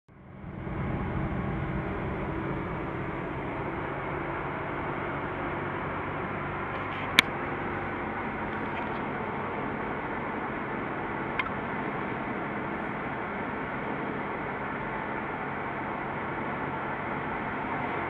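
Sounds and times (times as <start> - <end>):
car engine hum: 0.1 - 18.0
road noise inside car: 0.1 - 18.0.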